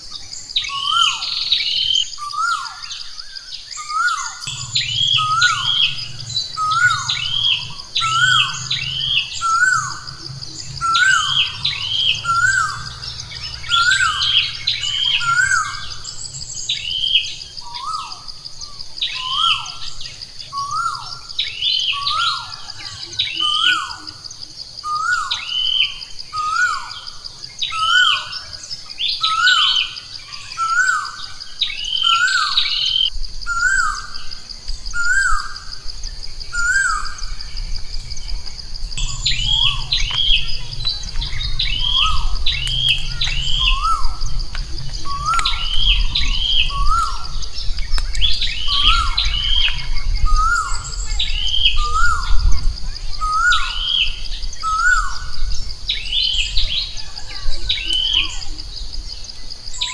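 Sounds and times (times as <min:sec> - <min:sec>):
bird chirping: 0:00.0 - 0:59.9
steady high-pitched whine: 0:04.4 - 0:59.9.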